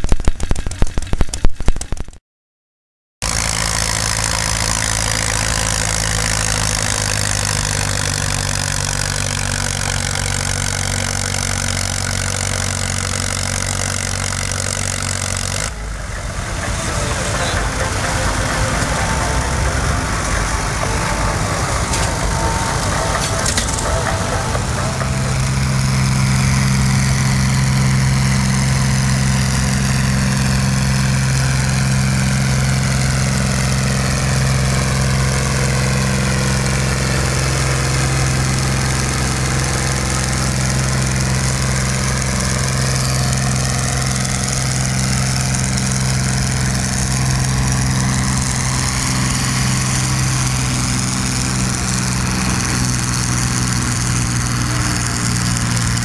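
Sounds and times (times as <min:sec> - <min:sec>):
tractor engine running under load: 0:03.2 - 0:56.0.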